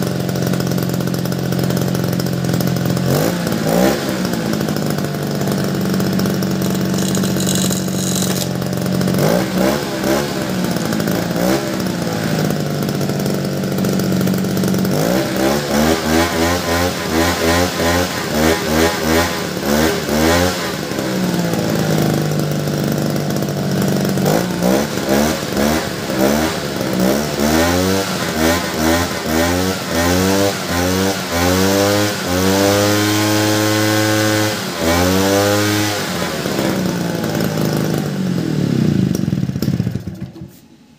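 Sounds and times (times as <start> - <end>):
small petrol engine revving: 0.0 - 40.6.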